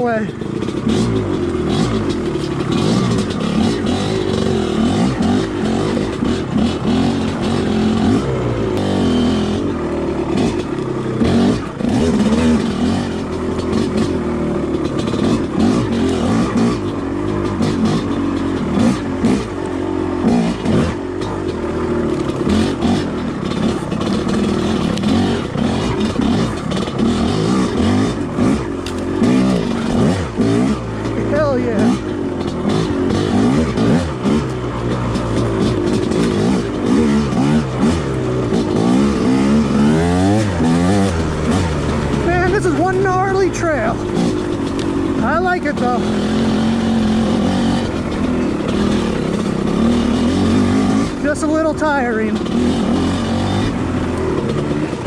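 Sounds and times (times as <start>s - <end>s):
dirt bike engine revving: 0.0s - 55.0s
knocks and clatter: 10.3s - 55.0s.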